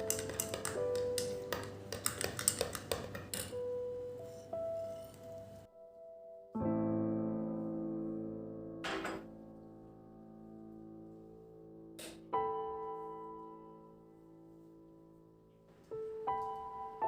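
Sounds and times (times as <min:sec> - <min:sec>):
soft solo piano chords: 0:00.0 - 0:17.0.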